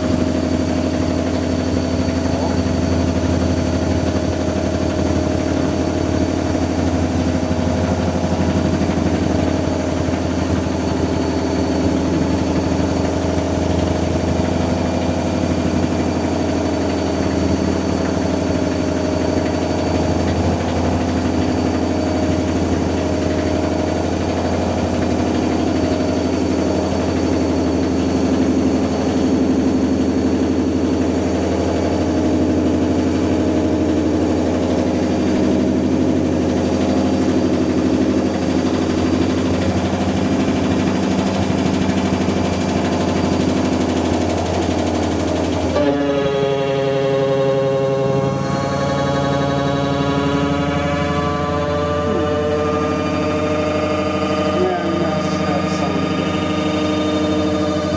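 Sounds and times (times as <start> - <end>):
washing machine spinning: 0.0 - 57.9.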